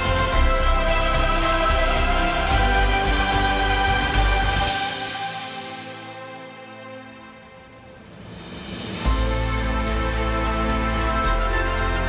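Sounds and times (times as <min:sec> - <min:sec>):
music of held chords: 0:00.0 - 0:12.0.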